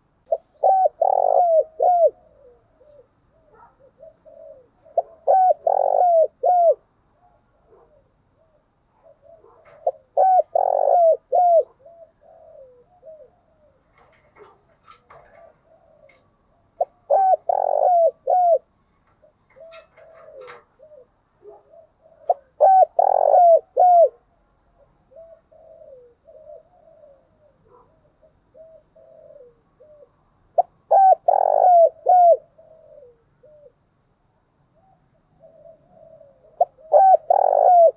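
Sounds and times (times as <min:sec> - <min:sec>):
dove cooing: 0:00.0 - 0:33.9, 0:34.7 - 0:37.9.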